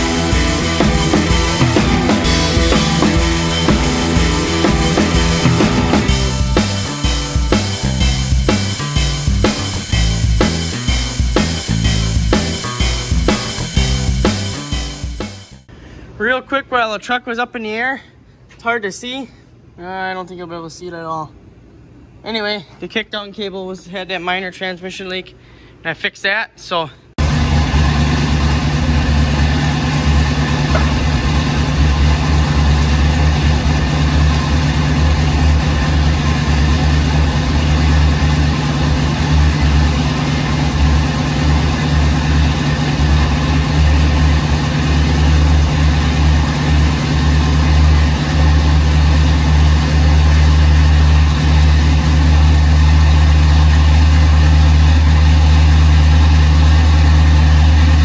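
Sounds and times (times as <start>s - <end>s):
car engine idling: 0.0s - 15.7s, 27.2s - 58.0s.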